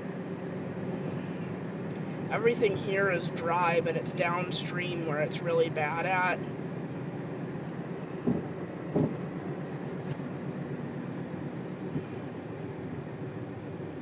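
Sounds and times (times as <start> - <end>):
road and engine rumble in vehicle: 0.0 - 14.0.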